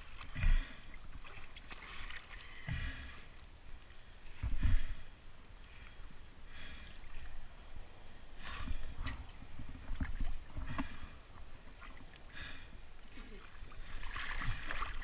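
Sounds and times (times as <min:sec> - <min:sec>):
water sloshing and splashing: 0:00.0 - 0:05.1, 0:06.6 - 0:15.0.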